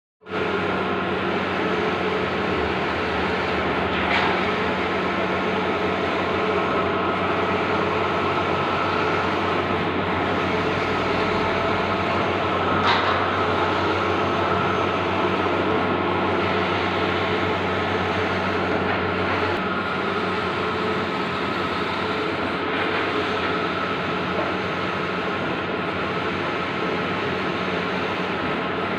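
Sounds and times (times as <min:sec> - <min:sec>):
printer mechanical hum and whir: 0:00.2 - 0:28.9.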